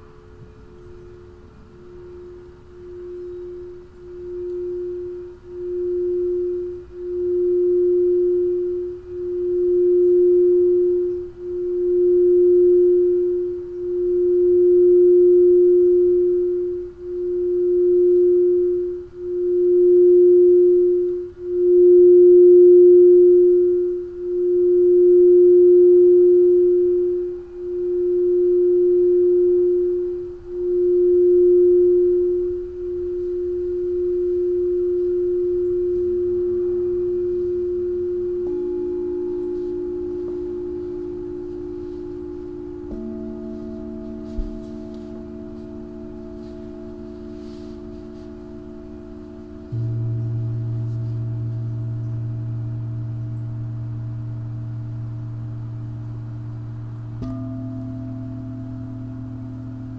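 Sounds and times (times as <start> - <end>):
crystal singing bowl note: 0.0 - 59.9.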